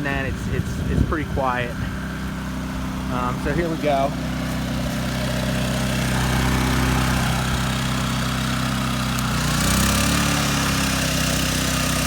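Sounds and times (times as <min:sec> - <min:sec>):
generator running under load: 0:00.0 - 0:12.0.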